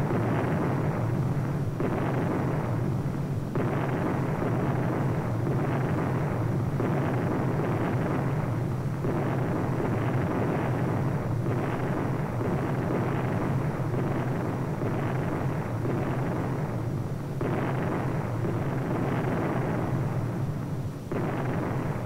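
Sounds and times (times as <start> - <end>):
rumble of bomb explosions: 0.0 - 22.0.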